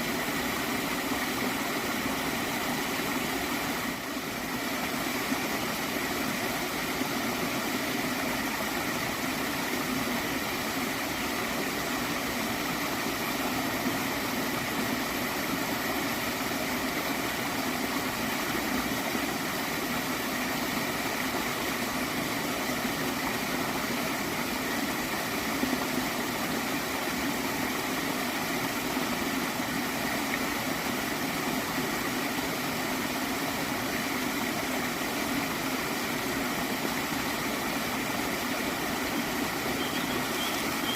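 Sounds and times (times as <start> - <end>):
stream water flowing and gurgling: 0.0 - 40.9.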